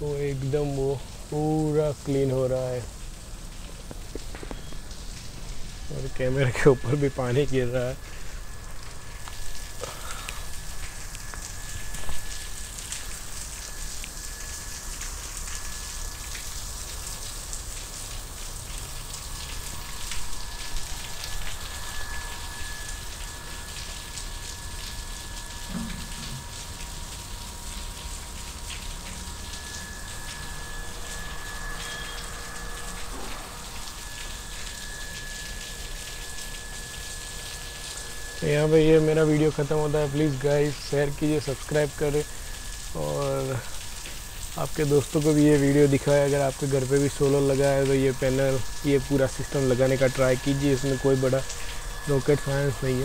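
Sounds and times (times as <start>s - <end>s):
sprinkler water pattering: 0.0s - 53.0s.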